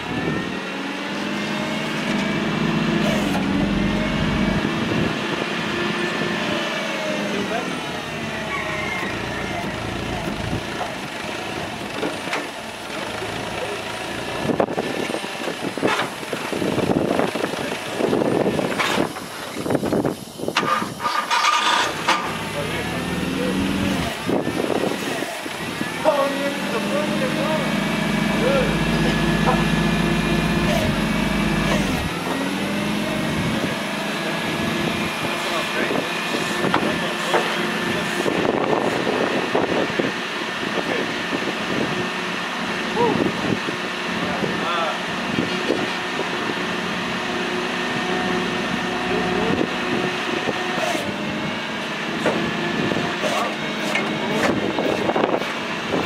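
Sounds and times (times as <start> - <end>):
forklift engine running: 0.0 - 56.0.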